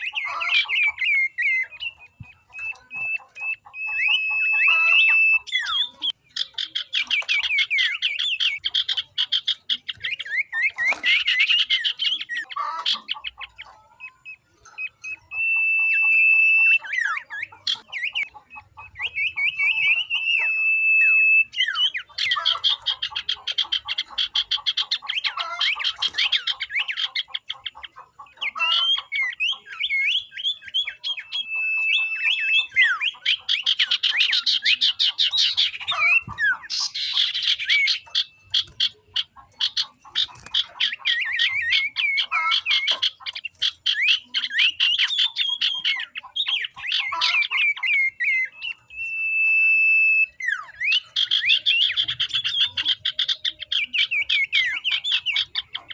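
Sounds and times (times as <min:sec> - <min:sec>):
bird whistled notes: 0:00.0 - 0:12.4, 0:14.3 - 0:26.6, 0:28.4 - 0:39.0, 0:43.6 - 0:55.8
flock of birds chattering trills: 0:00.0 - 0:55.9.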